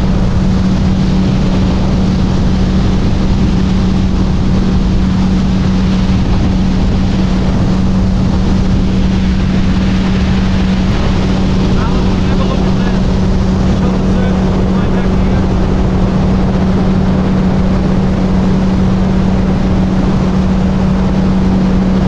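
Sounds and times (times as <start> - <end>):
outboard motor humming: 0.0 - 22.0.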